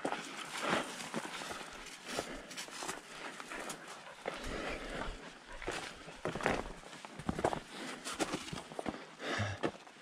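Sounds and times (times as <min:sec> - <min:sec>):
footsteps crunching on trail: 0:00.0 - 0:10.0.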